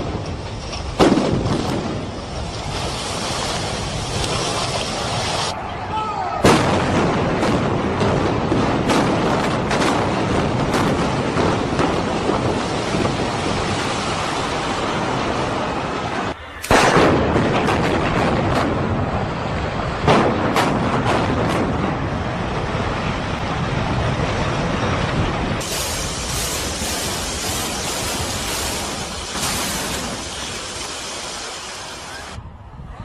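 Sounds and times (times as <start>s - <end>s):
building collapsing rumble: 0.0s - 5.5s, 6.4s - 32.6s
demolition blasts: 0.0s - 5.5s, 6.4s - 32.4s.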